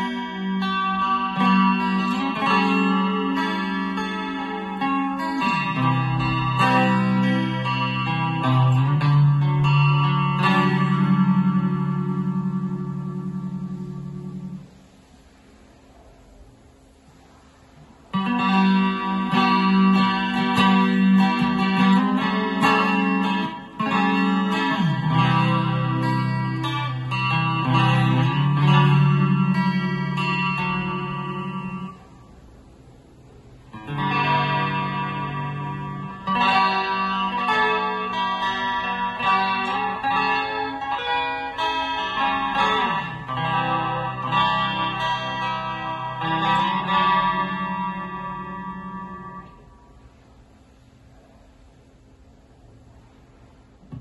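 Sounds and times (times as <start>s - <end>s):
electric guitar ringing notes: 0.0s - 15.0s, 18.0s - 32.4s, 33.2s - 50.4s.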